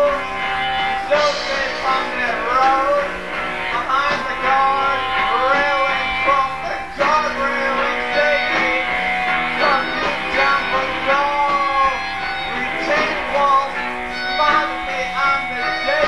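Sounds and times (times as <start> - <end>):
live band music: 0.0 - 16.0
plucked guitar: 0.0 - 16.0.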